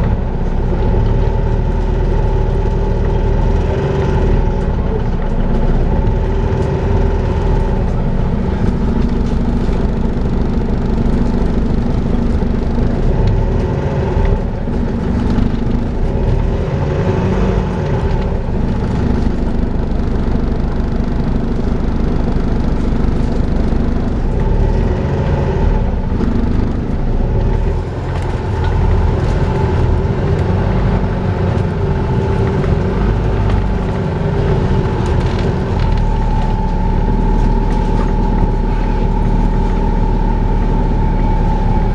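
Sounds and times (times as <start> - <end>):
bus whine: 0.0 - 41.9
engine and road noise: 0.0 - 41.9.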